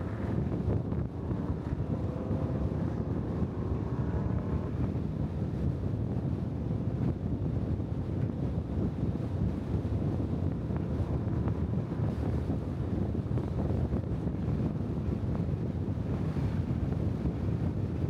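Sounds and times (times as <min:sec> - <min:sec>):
road and tyre noise: 0:00.0 - 0:18.0
wind buffeting microphone: 0:00.0 - 0:18.0.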